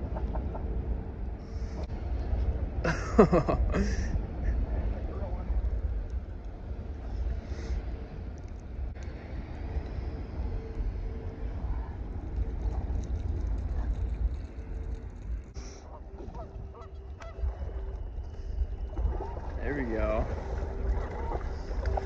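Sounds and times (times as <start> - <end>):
faint steady hum: 0.0 - 22.0
wind rumbling on microphone: 0.0 - 22.0.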